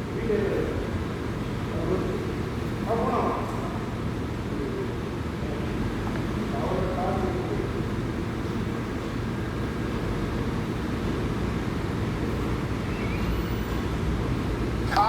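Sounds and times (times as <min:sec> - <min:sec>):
low hum and hiss on phone call: 0:00.0 - 0:15.0.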